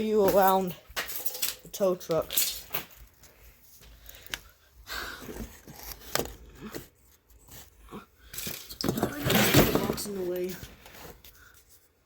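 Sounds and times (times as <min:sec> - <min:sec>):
rustling of objects handled: 0:00.0 - 0:12.0.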